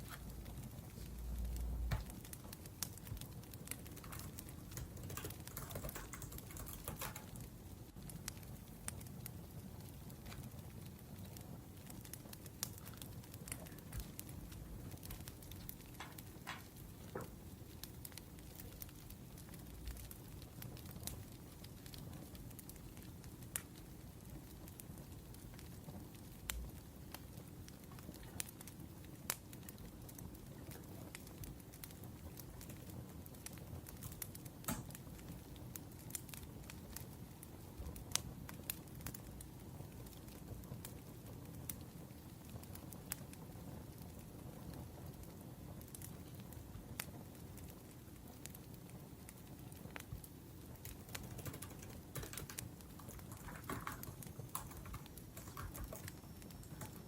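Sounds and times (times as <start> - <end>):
fire crackles and pops: 0.0 - 57.0
wood fire rumbling: 0.0 - 57.0.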